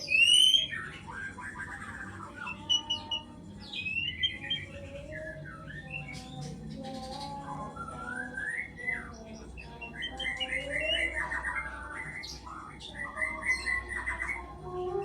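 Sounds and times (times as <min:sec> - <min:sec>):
bird calling and chirping: 0:00.0 - 0:15.0.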